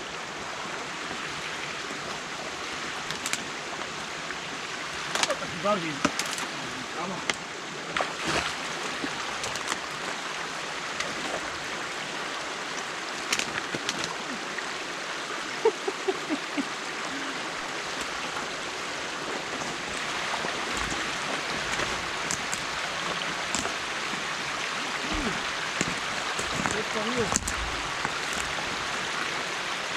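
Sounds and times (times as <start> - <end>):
stream water rushing: 0.0 - 29.9.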